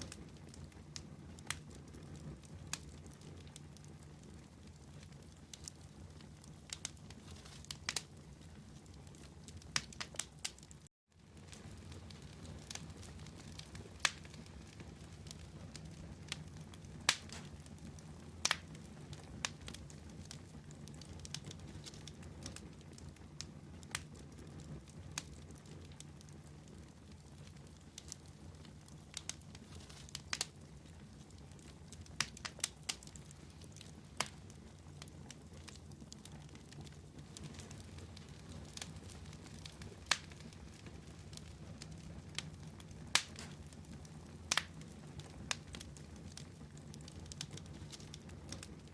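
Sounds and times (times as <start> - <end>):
campfire wood crackling: 0.0 - 48.9
low rumble of flames: 0.0 - 48.9.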